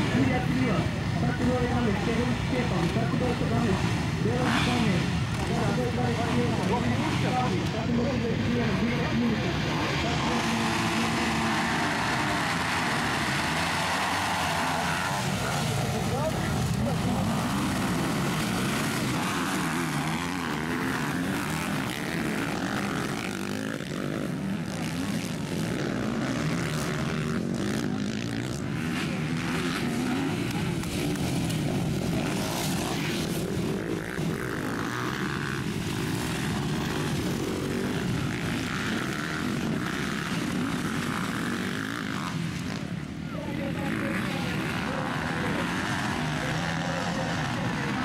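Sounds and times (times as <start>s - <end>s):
motocross bike engines revving: 0.0s - 48.0s.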